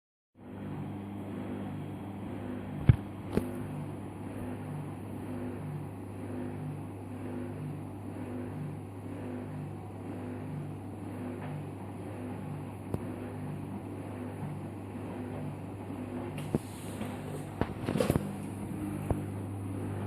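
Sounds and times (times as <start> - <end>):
washing machine running: 0.4 - 20.0.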